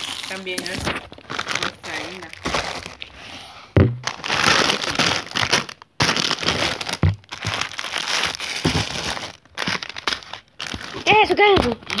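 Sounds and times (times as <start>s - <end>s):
packaging crinkling and rustling: 0.0s - 3.2s, 4.0s - 12.0s.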